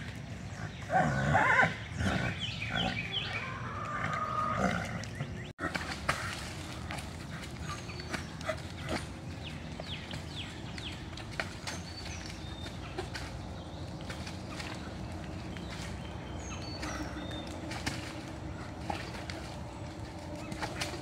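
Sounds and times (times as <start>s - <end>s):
birds chirping: 0.0s - 21.0s
horses squealing and grunting: 0.0s - 21.0s.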